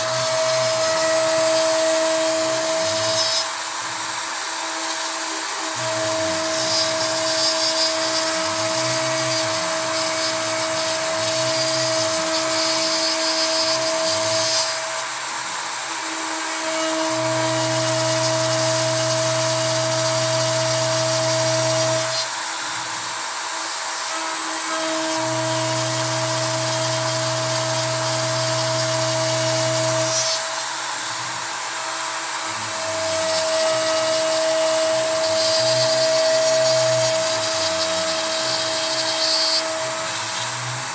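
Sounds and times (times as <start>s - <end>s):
spindle motor whining: 0.0s - 40.9s.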